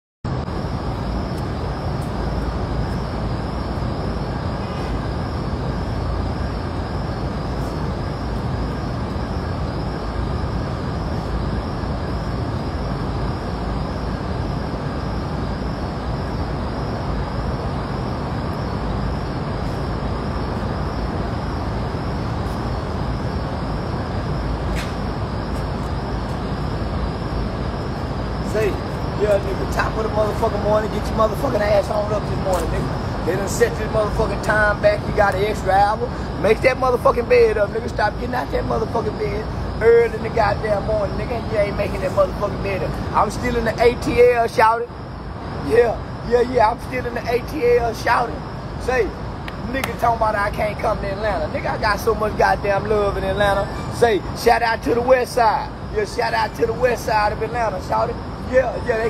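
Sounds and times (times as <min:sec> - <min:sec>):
low city rumble: 0:00.2 - 0:59.0.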